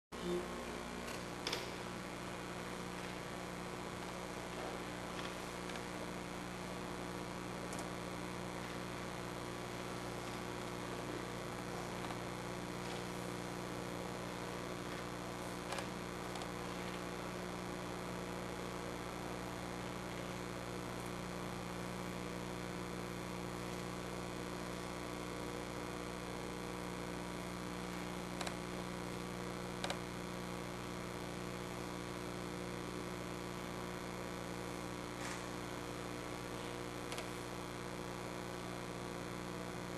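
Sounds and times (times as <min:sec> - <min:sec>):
electrical hum: 0:00.1 - 0:39.9
background hiss: 0:00.2 - 0:39.9.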